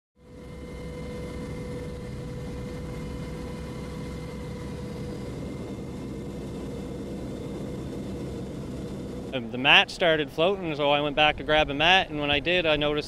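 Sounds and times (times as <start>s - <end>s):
aircraft engine cabin rumble: 0.2s - 13.0s.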